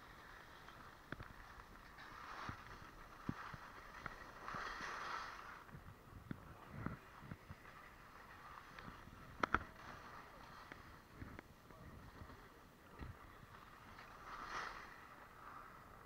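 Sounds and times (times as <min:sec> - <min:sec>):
skis scraping over snow: 0:00.0 - 0:16.0.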